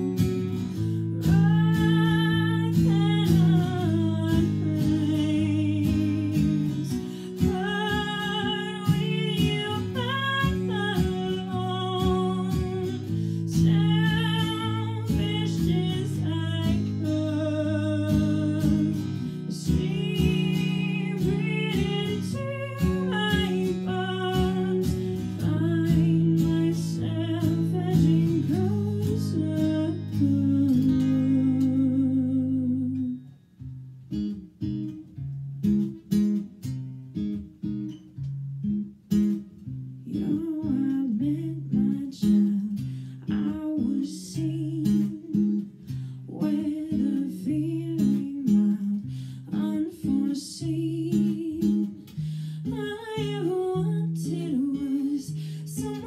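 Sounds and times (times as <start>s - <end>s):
woman singing: 0.0s - 33.4s, 40.0s - 56.0s
acoustic guitar chords: 0.0s - 56.0s.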